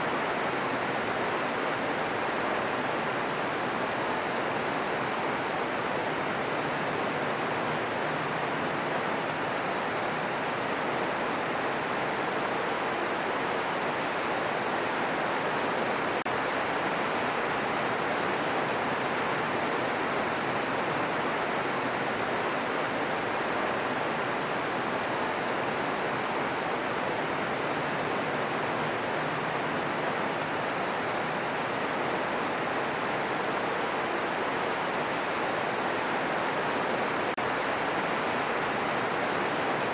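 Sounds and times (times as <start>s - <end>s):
steady green noise hiss: 0.0s - 39.9s.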